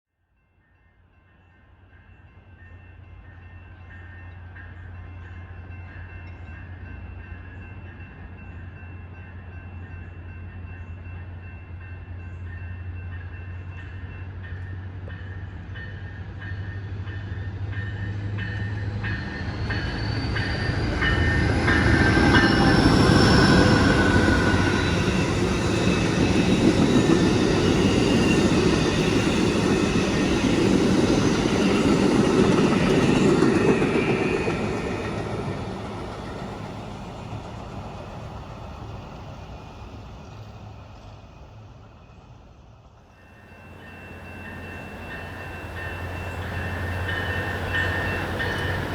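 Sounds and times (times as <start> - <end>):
passing train rumble: 3.8 - 48.9
diesel locomotive engine drone: 6.2 - 48.9.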